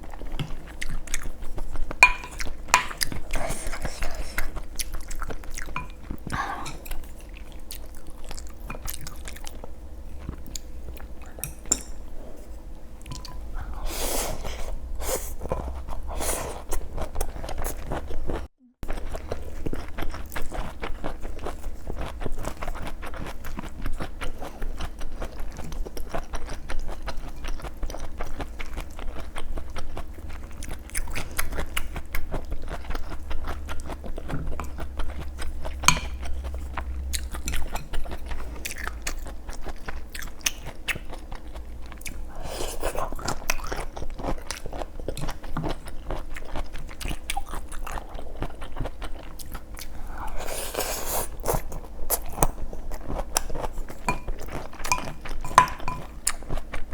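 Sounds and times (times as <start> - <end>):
person chewing and crunching food: 0.0 - 56.9.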